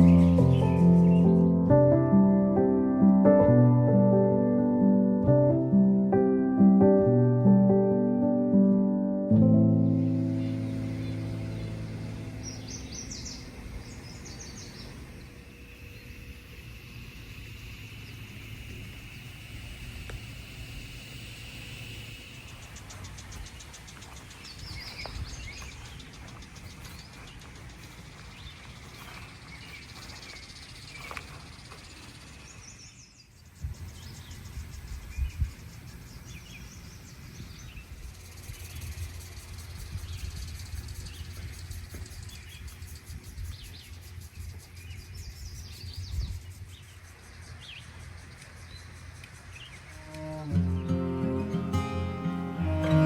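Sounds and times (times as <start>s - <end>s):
low wind rumble: 0.0s - 21.3s, 22.5s - 30.9s, 33.5s - 50.0s
small birds chirping: 0.0s - 53.0s.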